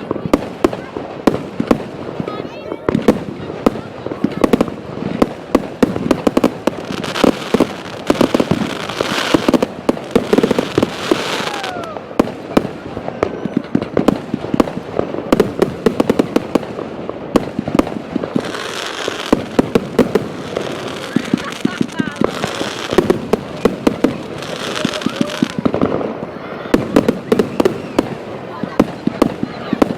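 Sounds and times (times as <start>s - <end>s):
fireworks bangs and pops: 0.0s - 29.9s
fireworks hissing crackle: 0.0s - 29.9s.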